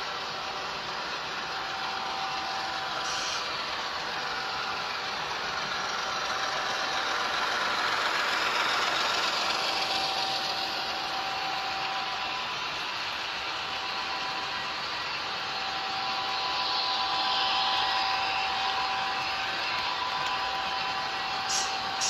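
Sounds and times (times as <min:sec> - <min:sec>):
model train rolling with whine: 0:00.0 - 0:22.0.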